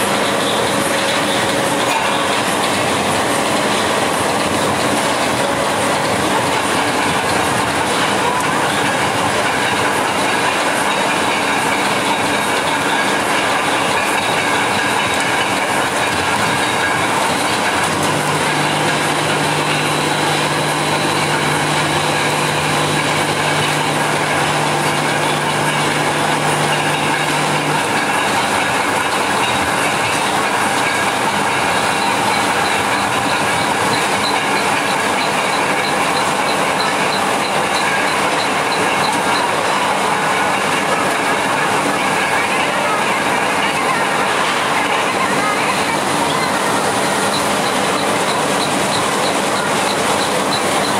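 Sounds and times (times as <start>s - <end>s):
heavy machinery rumbling and rattling: 0.0s - 50.9s.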